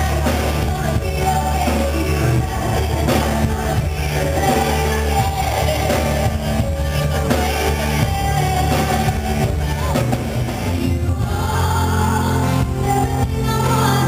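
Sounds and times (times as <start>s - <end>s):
live pop band playing: 0.0s - 14.0s
women singing: 0.0s - 14.0s.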